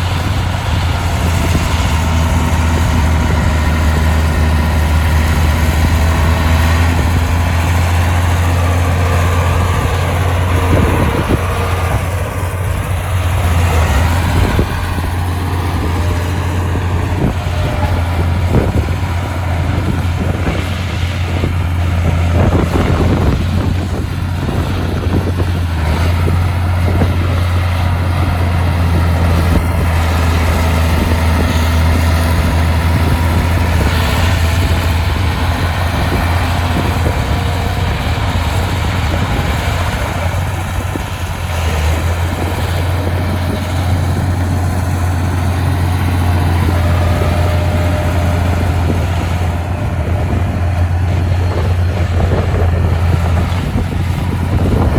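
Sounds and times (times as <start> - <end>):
heavy diesel engine droning: 0.0 - 54.9.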